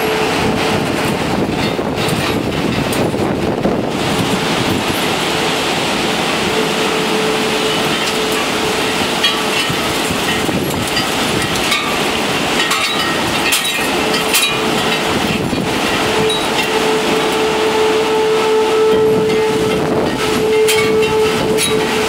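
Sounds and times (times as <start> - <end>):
wind rushing through trees: 0.0 - 22.0.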